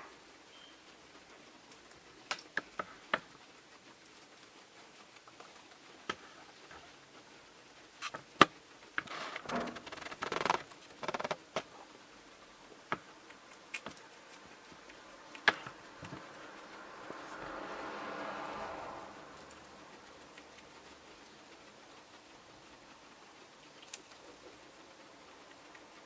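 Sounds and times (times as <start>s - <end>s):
guinea pigs rustling: 0.0s - 26.0s.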